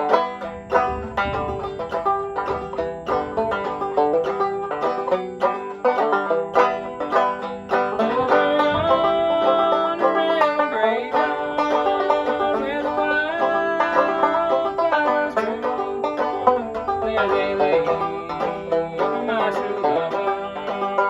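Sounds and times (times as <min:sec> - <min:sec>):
banjo picking a tune: 0:00.0 - 0:21.0.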